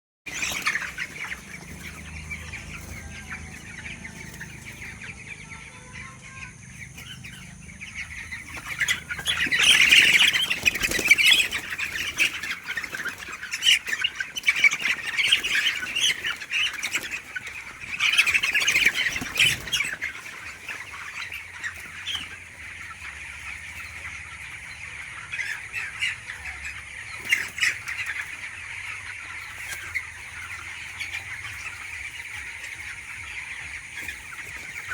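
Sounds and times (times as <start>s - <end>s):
chicks chirping: 0.3s - 34.9s.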